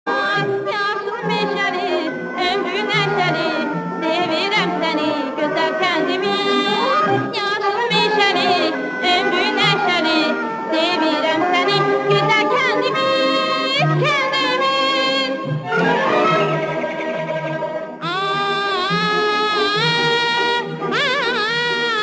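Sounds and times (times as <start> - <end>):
person singing with heavy vibrato: 0.1 - 16.9, 17.8 - 22.0.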